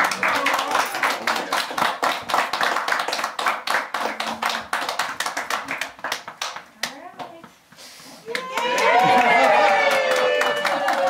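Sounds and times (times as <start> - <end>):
small group clapping: 0.0 - 7.5, 8.2 - 11.0.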